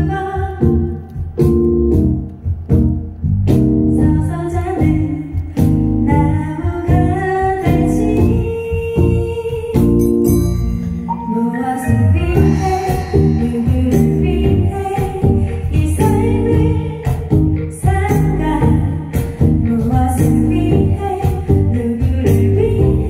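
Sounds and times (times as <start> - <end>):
woman singing into microphone: 0.0 - 1.4, 3.9 - 10.1, 11.1 - 23.0
drums steady beat: 0.0 - 10.6, 12.2 - 23.0
electric bass guitar: 0.0 - 11.1, 11.9 - 23.0.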